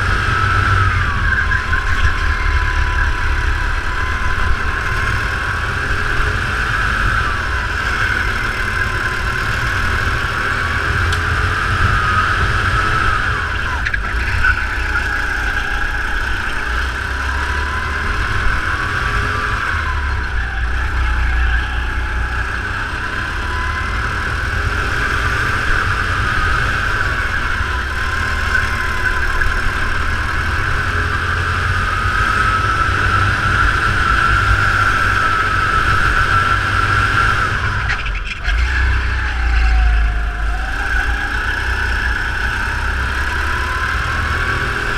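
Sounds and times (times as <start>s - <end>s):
kart engine revving: 0.0s - 44.9s.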